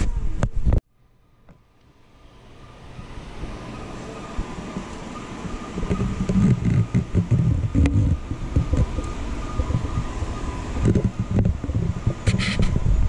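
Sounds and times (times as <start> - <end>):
faint steady hum: 0.0 - 13.0
gusty wind rumble on microphone: 2.3 - 13.0.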